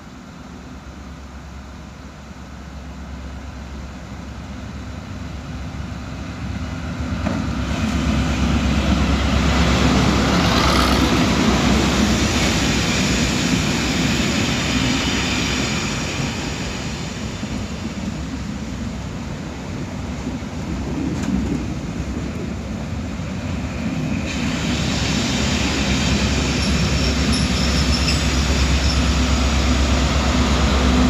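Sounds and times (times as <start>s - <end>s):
locomotive engine drone: 0.0s - 31.0s
rail rumble: 0.0s - 31.0s.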